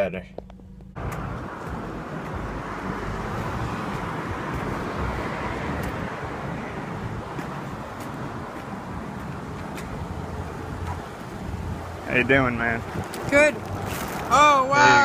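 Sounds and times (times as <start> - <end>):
road traffic: 0.0 - 15.0
wind buffeting microphone: 1.0 - 15.0.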